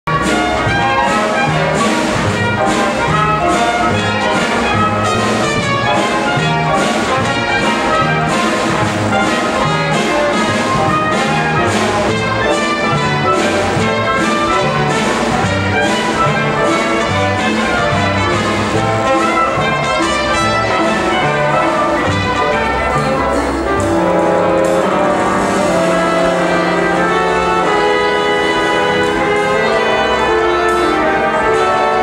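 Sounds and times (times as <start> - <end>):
big band playing jazz: 0.0 - 32.0.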